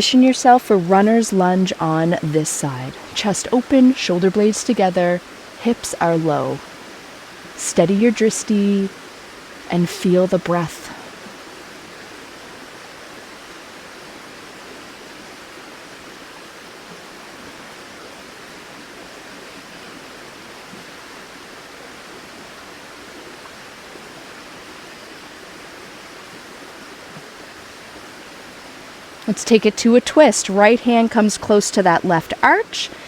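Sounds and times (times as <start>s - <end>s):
river rushing: 0.0s - 33.0s.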